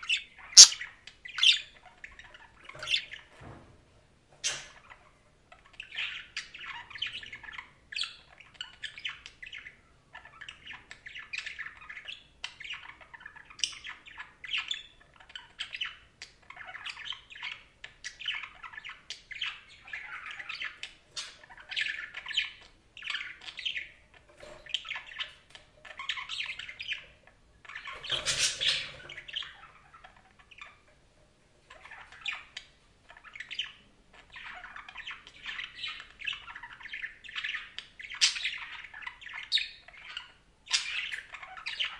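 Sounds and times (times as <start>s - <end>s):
budgerigars chattering and warbling: 0.0s - 3.3s, 5.7s - 30.9s, 31.7s - 41.9s.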